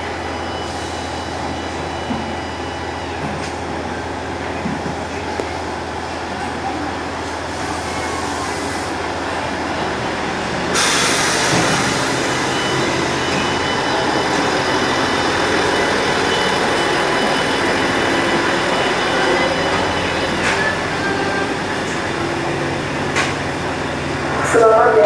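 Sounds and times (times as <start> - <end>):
train rumbling and rattling: 1.9 - 25.0.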